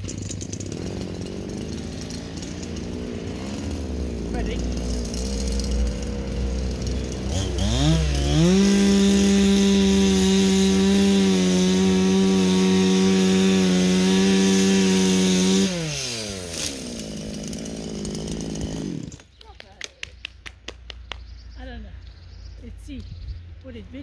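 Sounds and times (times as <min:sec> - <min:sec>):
chainsaw revving and sawing: 0:00.0 - 0:19.3.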